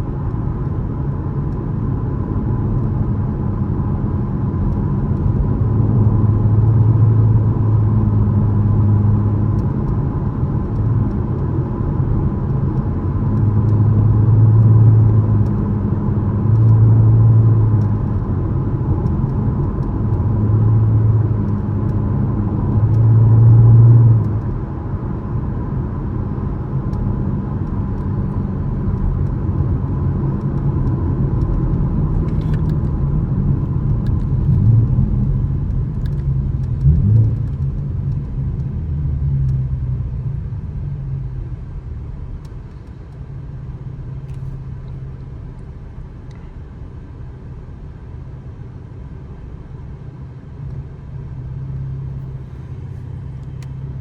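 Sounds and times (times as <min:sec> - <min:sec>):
car engine droning: 0:00.0 - 0:54.0
road noise: 0:00.0 - 0:54.0.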